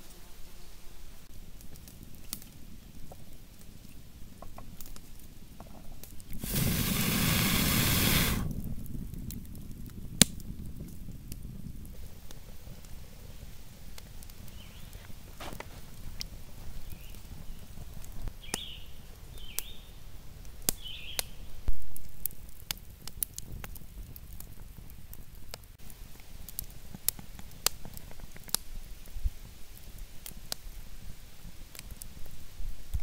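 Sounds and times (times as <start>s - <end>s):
low fire rumble: 1.3s - 33.0s
wood fire crackling and popping: 1.3s - 33.0s.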